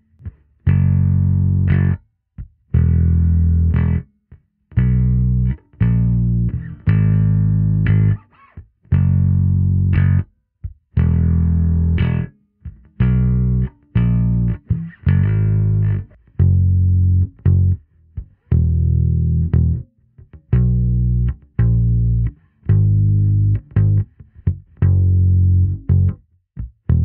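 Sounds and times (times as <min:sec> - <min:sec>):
electric bass guitar notes: 0:00.0 - 0:02.1, 0:02.7 - 0:04.1, 0:04.7 - 0:10.3, 0:10.9 - 0:27.0.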